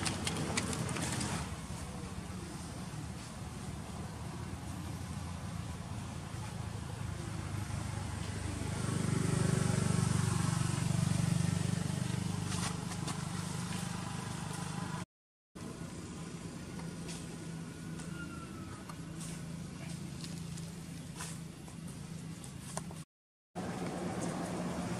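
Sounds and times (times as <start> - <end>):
vehicle engine humming: 0.0 - 15.0, 15.6 - 23.0, 23.6 - 24.9.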